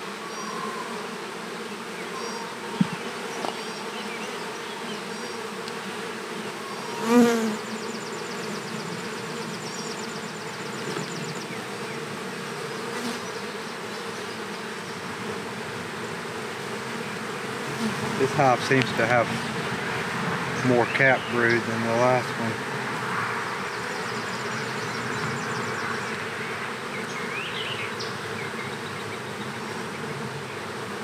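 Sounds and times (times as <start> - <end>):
bees humming: 0.0 - 31.0.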